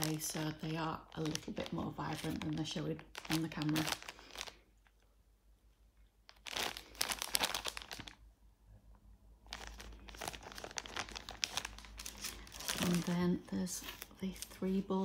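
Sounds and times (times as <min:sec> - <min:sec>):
plastic bag crinkling: 0:00.0 - 0:05.0, 0:06.3 - 0:08.2, 0:09.4 - 0:15.0.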